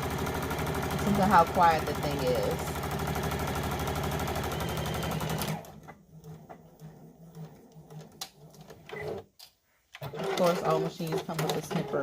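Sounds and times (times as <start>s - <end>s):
sewing machine stitching: 0.0s - 9.3s, 9.9s - 12.0s.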